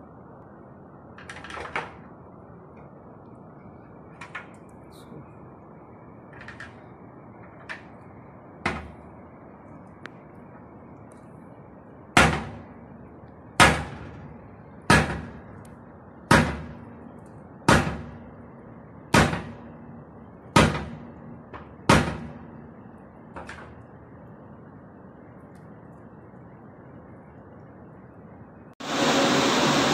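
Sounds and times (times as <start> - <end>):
low background noise: 0.0 - 28.8.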